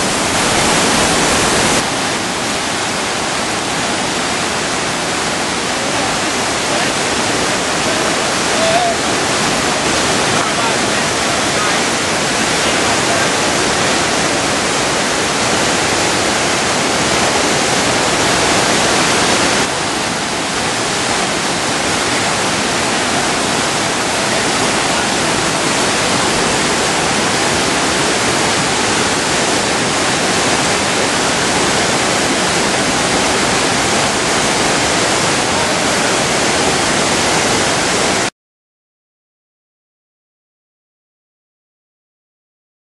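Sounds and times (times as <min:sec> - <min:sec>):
river rapids rushing: 0:00.0 - 0:38.3.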